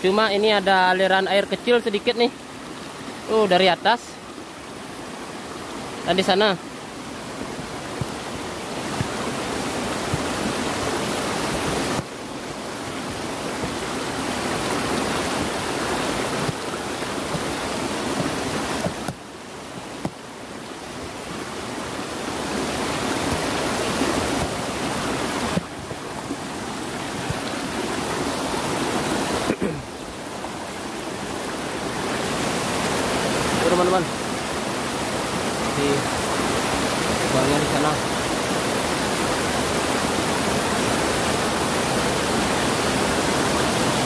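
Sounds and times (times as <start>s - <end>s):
water rushing over rocks: 0.0s - 44.0s.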